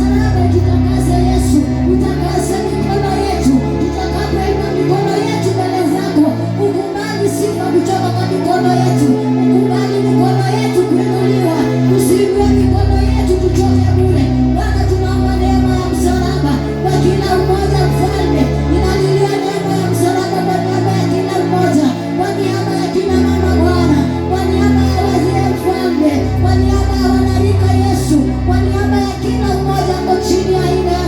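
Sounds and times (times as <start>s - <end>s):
sustained bass chords: 0.0s - 31.0s
voices singing worship music: 0.0s - 31.0s.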